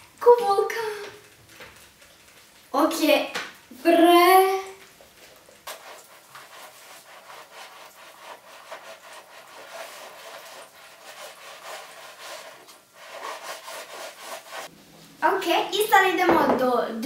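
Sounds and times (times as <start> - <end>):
dry ice fizzing in water: 0.3 - 14.7.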